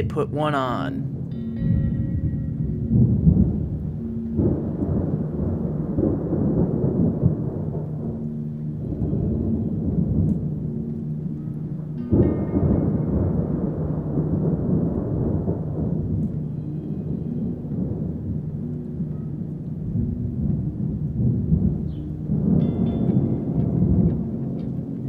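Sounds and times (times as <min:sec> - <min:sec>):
thunder clap and rumble: 0:00.0 - 0:25.0.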